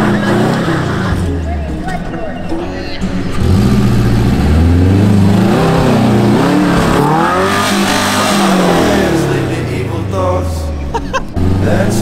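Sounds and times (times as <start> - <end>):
car engine revving: 0.0 - 2.0, 3.0 - 12.0.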